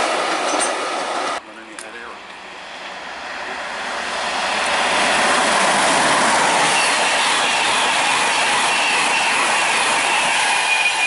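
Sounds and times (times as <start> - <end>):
train passing at high speed: 0.0 - 11.0.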